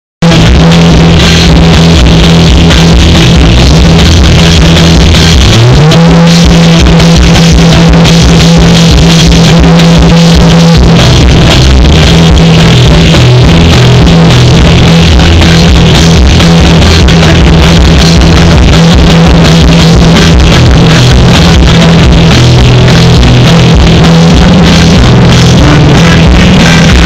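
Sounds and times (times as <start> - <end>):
bass guitar: 0.0 - 27.0
electric guitar: 0.0 - 27.0
drum kit with cymbals: 0.2 - 27.0.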